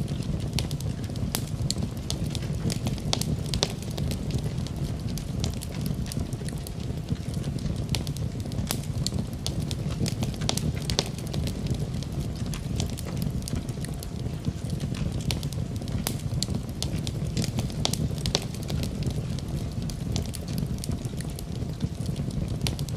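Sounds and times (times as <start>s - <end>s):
fire crackles and pops: 0.0s - 22.9s
low rush of flames: 0.0s - 22.9s.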